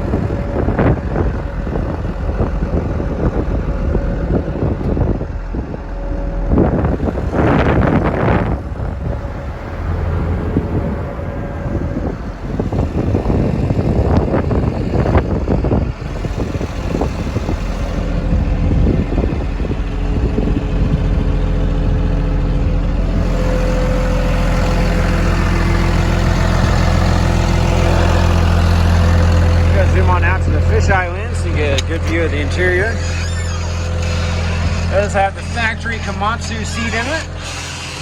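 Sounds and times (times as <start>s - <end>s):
bulldozer diesel engine idling: 0.0s - 38.0s.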